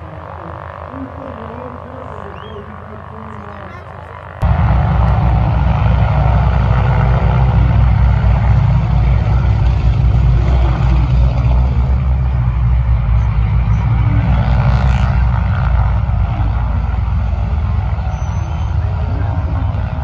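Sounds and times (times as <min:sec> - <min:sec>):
radial aircraft engines rumbling: 0:00.0 - 0:20.0.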